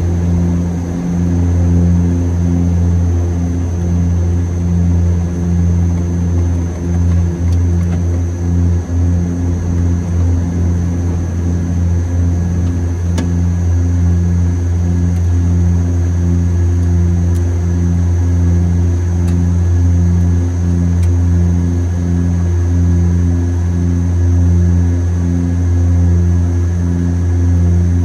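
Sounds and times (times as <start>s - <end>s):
high whine: 0.0s - 28.0s
turboprop engines droning: 0.0s - 28.0s.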